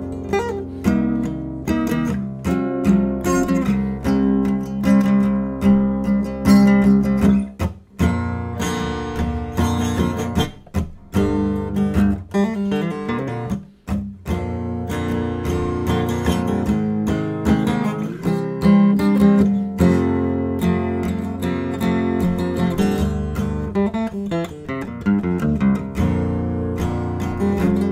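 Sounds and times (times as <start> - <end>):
solo acoustic guitar: 0.0 - 27.9.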